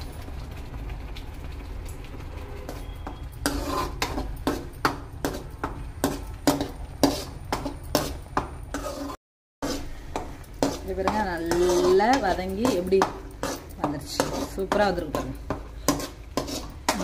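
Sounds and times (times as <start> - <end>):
metal ladle scraping metal pan: 2.4 - 17.0.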